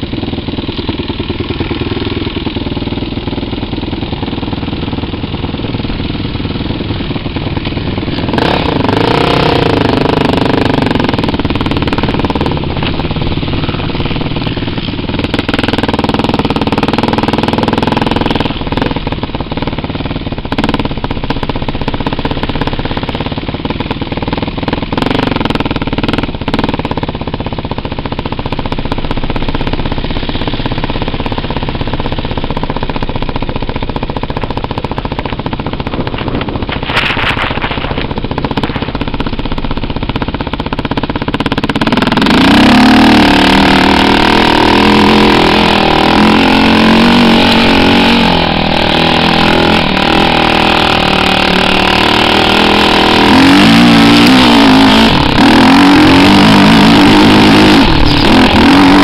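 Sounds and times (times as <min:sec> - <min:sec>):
quad bike engine running: 0:00.0 - 0:59.0.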